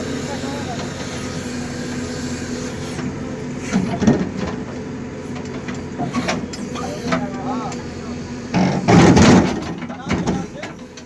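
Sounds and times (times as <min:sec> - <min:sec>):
earth-moving machine engine running: 0:00.0 - 0:11.0.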